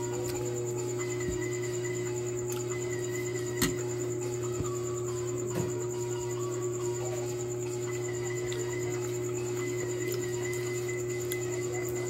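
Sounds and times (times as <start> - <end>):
steady hum of held tones: 0.0 - 12.0.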